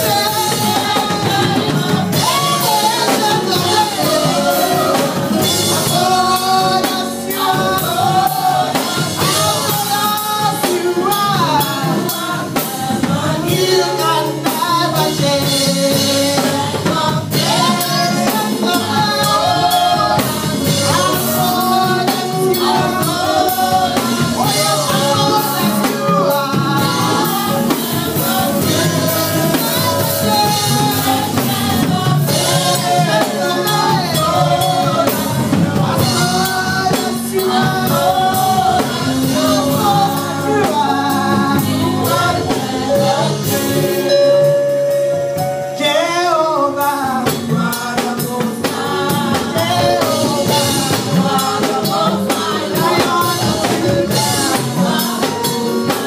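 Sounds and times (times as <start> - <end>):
band accompaniment: 0.0 - 56.0
drums: 0.0 - 56.0
woman singing lead vocals: 0.0 - 56.0
women singing backing vocals: 0.0 - 56.0.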